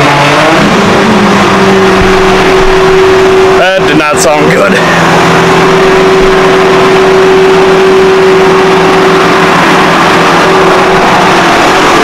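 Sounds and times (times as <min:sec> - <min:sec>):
tractor diesel engine running: 0:00.0 - 0:12.0
constant hum: 0:00.6 - 0:12.0.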